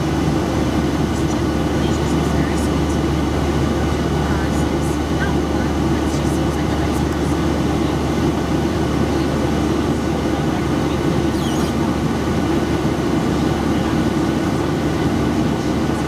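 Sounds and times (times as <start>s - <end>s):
airplane cabin engine roar: 0.0s - 16.0s.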